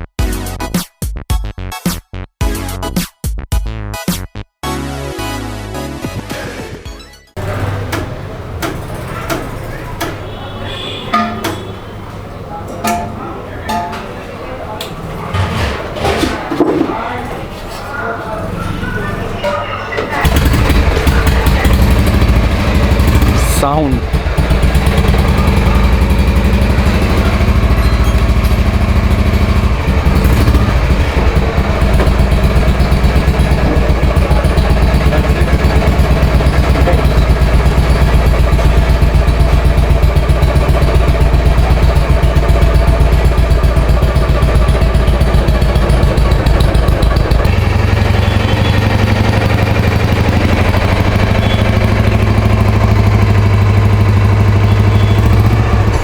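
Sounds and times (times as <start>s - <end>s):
single-cylinder engine running: 7.4s - 16.4s, 18.0s - 56.0s.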